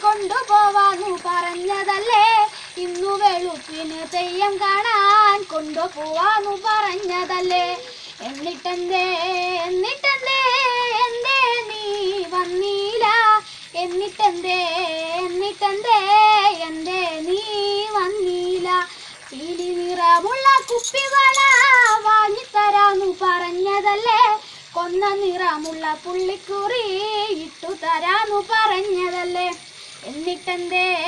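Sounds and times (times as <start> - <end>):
girl singing: 0.0 - 31.0.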